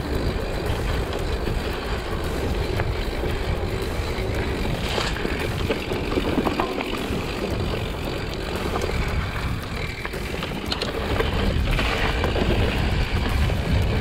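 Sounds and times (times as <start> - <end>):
bike clicks and rattles: 0.0 - 14.0
tyre rumble on dirt: 0.0 - 14.0
wind buffeting microphone: 0.0 - 14.0.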